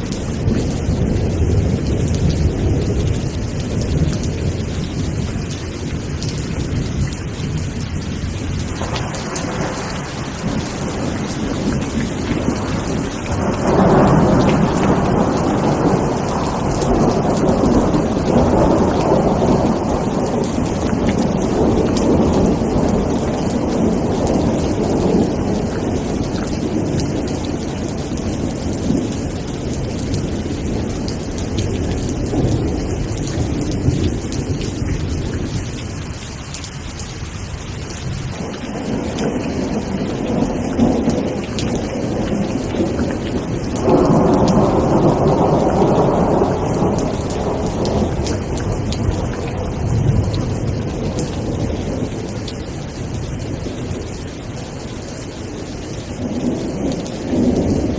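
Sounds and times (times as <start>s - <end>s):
rolling thunder: 0.0s - 36.1s, 37.6s - 55.0s, 55.6s - 57.9s
steady rain: 0.0s - 57.9s.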